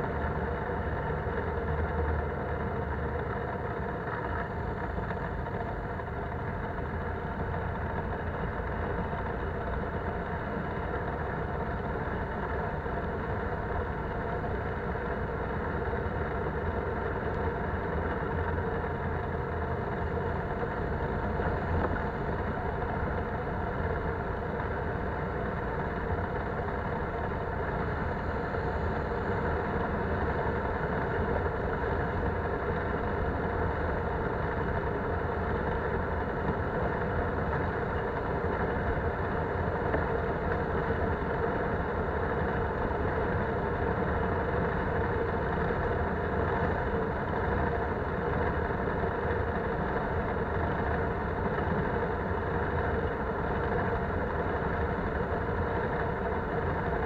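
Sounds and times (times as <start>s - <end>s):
atv engine running: 0.0s - 57.0s
rumble of riding: 0.0s - 57.0s.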